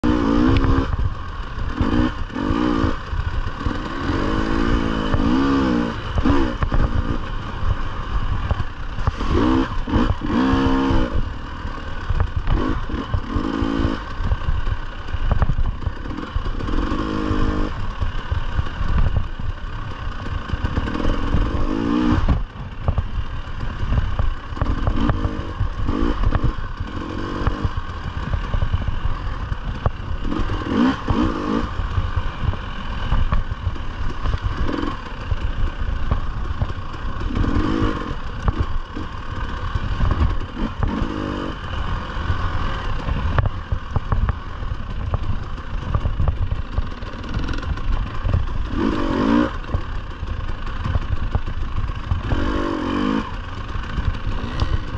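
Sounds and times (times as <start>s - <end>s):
bike rumble and clatter: 0.0s - 54.9s
dirt bike engine revving: 0.0s - 54.9s.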